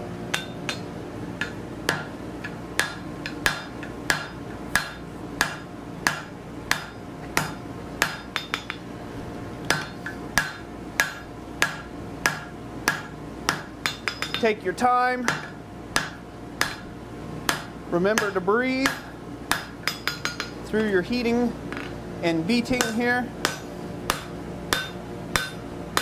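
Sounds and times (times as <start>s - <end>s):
hammer striking metal on anvil: 0.3s - 8.8s, 9.7s - 14.6s, 15.2s - 16.9s, 17.5s - 20.6s, 22.7s - 26.0s.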